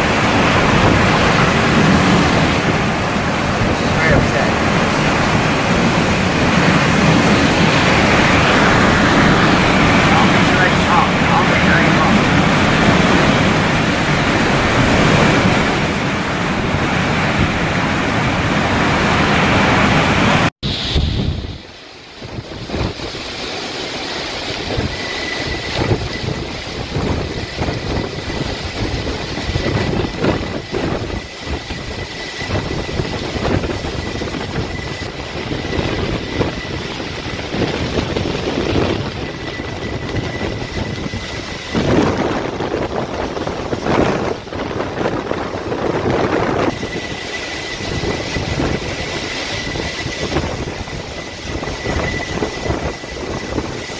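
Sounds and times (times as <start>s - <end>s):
strong wind and driving rain: 0.0s - 53.9s.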